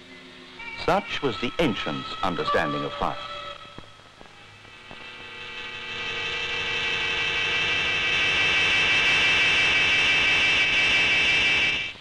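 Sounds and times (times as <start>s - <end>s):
whirring high held tones: 0.0s - 12.0s.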